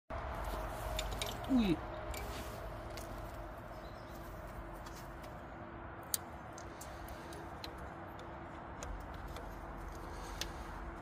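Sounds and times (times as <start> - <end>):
car engine humming: 0.1 - 11.0.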